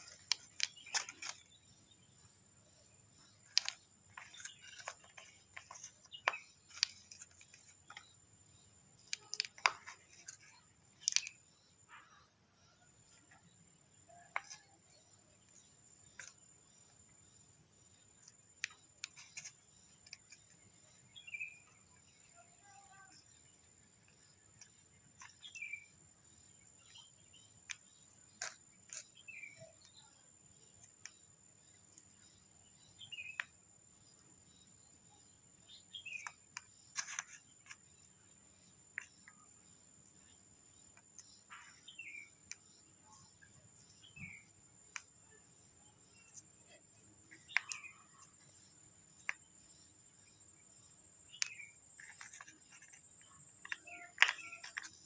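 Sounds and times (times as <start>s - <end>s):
plastic spoons and molds clicking: 0.0s - 2.2s, 3.1s - 11.5s, 13.0s - 17.2s, 17.9s - 26.0s, 26.7s - 33.6s, 35.9s - 43.5s, 46.0s - 49.8s, 51.3s - 55.0s.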